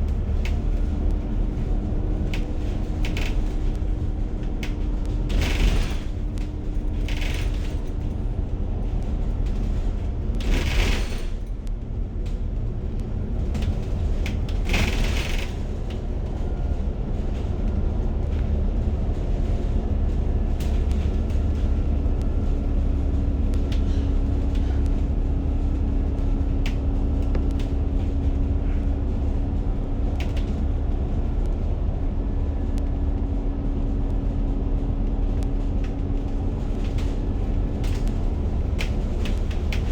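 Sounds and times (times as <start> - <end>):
bus engine and road rumble: 0.0 - 39.9
light rattles and clicks: 0.0 - 39.9.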